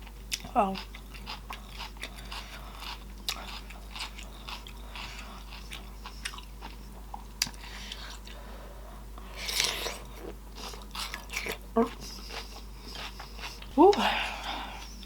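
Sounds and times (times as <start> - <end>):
wet chewing and lip smacking: 0.3 - 8.4, 9.5 - 13.8.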